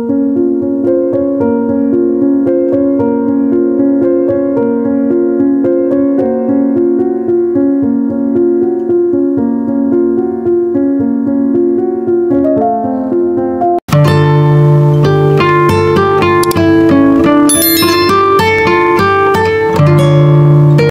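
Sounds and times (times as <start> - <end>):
slow piano melody: 0.0 - 20.9.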